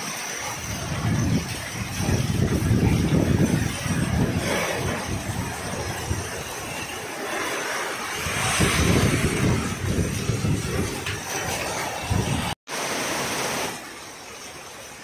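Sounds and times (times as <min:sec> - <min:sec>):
heavy rain pouring: 0:00.0 - 0:15.0
wind gusting on microphone: 0:00.4 - 0:12.6.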